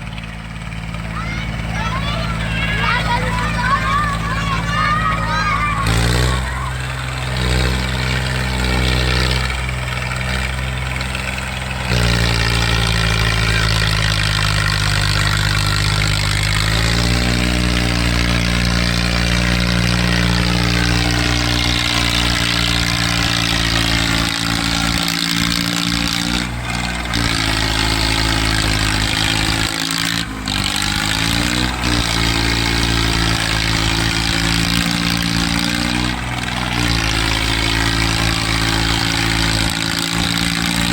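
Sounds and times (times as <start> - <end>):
tractor diesel engines under load: 0.0 - 40.9.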